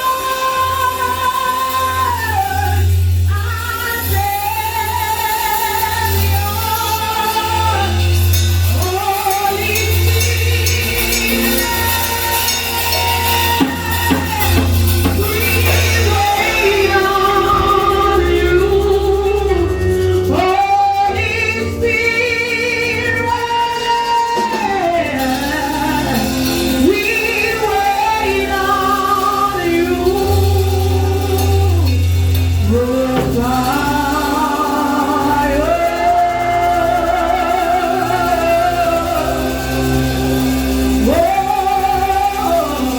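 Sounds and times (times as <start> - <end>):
instrumental backing with bass: 0.0 - 42.9
person singing: 0.0 - 42.9.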